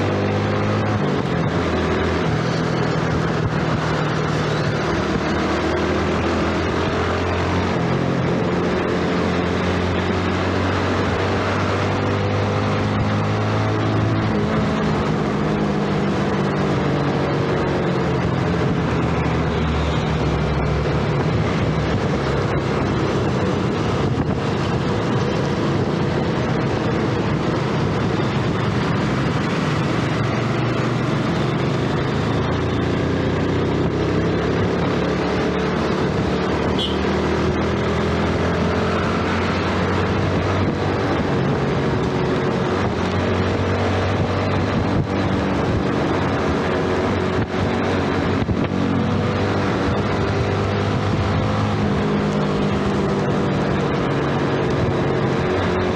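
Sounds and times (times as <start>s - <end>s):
motorcycle engine running: 0.0s - 55.9s
wind: 0.0s - 55.9s.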